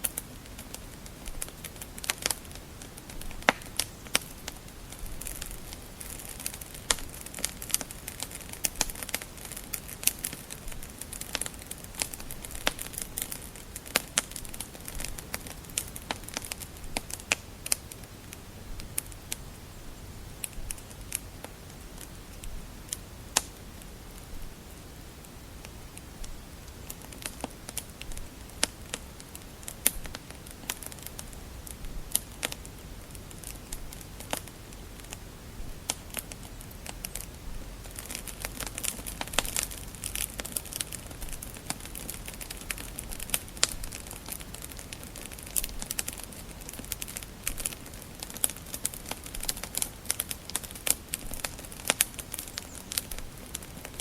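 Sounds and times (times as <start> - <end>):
low steady fire hiss: 0.0 - 54.0
wood fire crackling and popping: 0.0 - 54.0.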